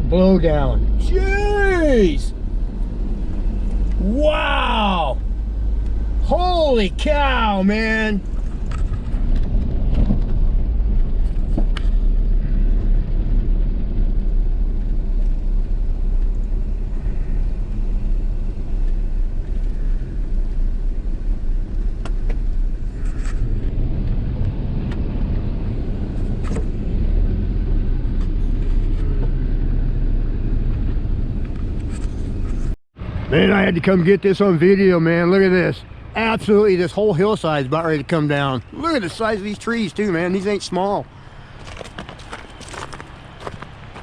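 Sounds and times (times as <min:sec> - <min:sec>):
vehicle road rumble: 0:00.0 - 0:44.0.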